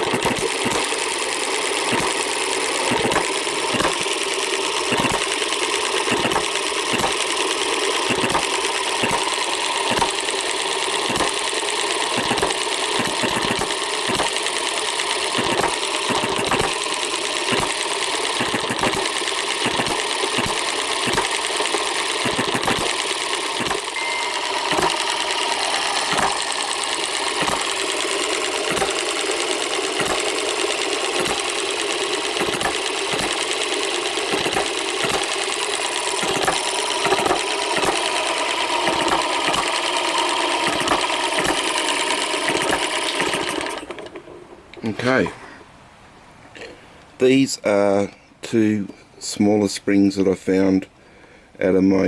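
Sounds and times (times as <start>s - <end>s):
mechanical clatter: 0.0s - 45.3s.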